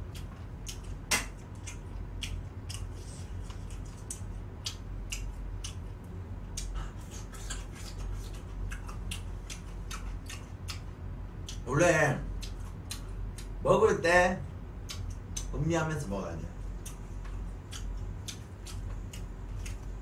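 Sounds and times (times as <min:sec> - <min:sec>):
person chewing and crunching: 0:00.0 - 0:13.6, 0:14.9 - 0:15.5, 0:16.7 - 0:20.0
low steady hum: 0:00.0 - 0:20.0.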